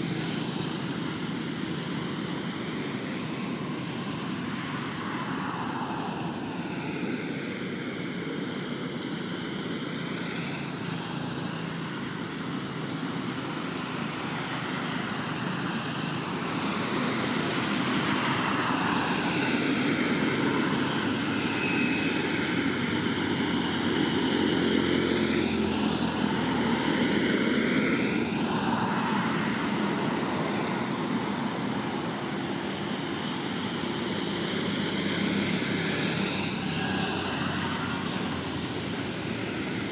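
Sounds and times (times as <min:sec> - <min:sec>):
passing vehicle engine rushing: 0:00.0 - 0:39.9.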